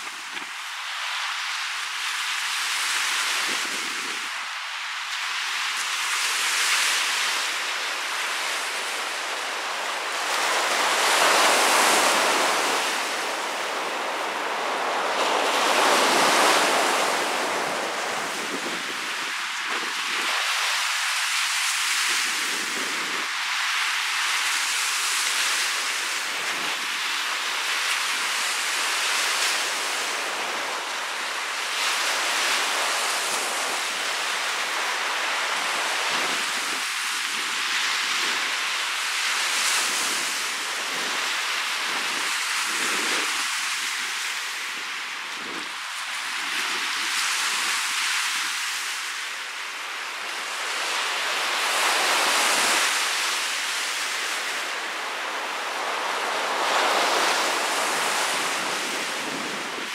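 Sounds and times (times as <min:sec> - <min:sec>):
waves breaking on sandy beach: 0:00.0 - 0:59.9.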